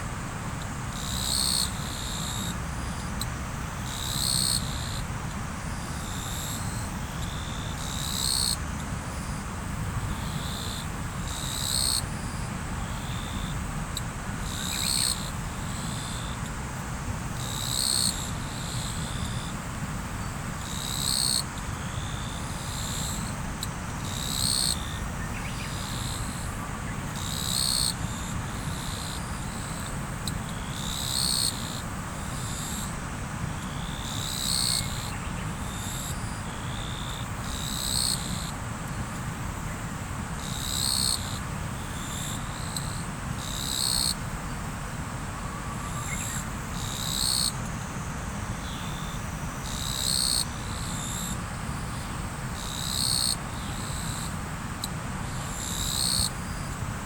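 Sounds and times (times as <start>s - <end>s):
faint high insect whine: 0.0s - 57.0s.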